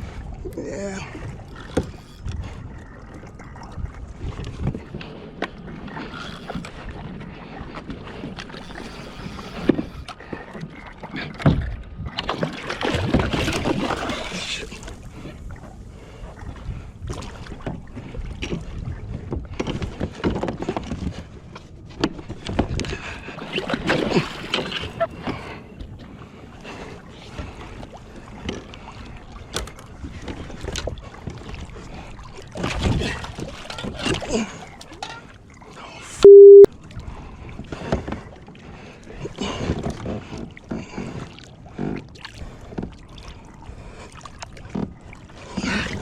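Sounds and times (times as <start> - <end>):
water sloshing and splashing: 0.0 - 36.2, 36.8 - 46.0.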